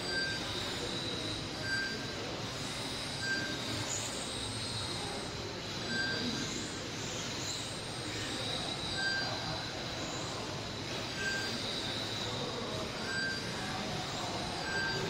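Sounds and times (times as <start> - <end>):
short beeps: 0.0 - 2.2, 3.1 - 5.0, 5.8 - 6.7, 7.6 - 15.0.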